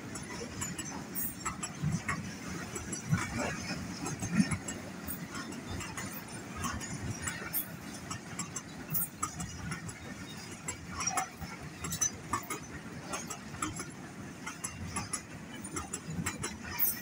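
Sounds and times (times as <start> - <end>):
train wheels rumbling on track: 0.0 - 17.0
metallic clicks and clanks: 0.1 - 17.0.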